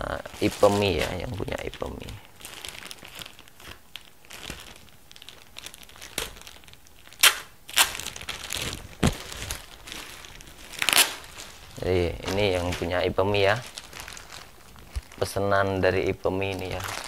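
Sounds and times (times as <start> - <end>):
plastic bag crinkling: 0.1 - 17.0
sharp plastic crackles: 0.3 - 17.0.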